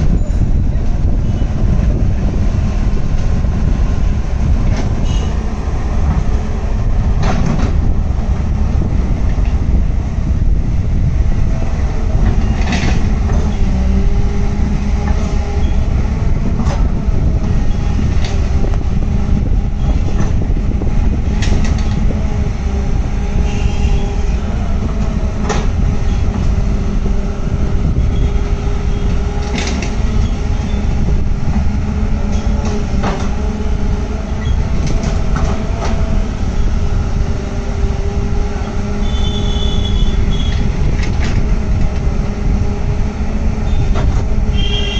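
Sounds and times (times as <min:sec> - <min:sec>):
excavator engine rumble: 0:00.0 - 0:44.9.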